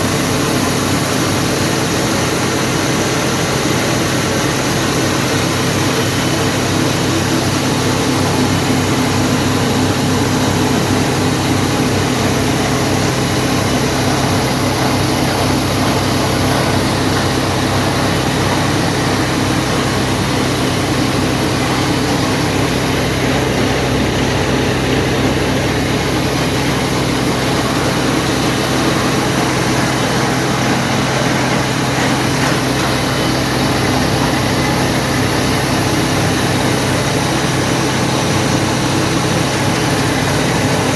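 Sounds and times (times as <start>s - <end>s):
grain cleaning machine droning: 0.0s - 40.9s.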